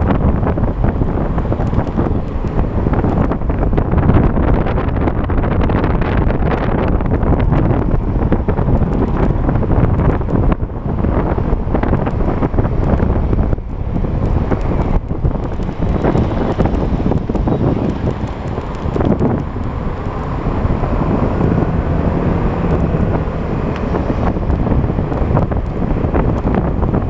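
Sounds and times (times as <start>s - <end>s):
traffic: 0.0s - 27.0s
wind buffeting microphone: 0.0s - 27.0s.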